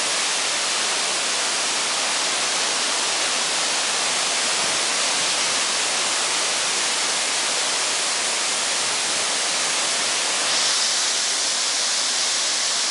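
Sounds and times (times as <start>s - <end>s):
waterfall rushing over rocks: 0.0s - 12.9s.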